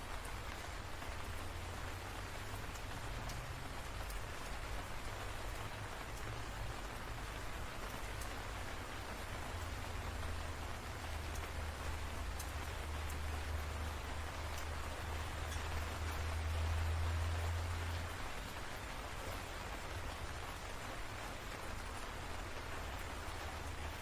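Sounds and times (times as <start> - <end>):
rain drop ticks: 0.0 - 24.0
steady rain: 0.0 - 24.0.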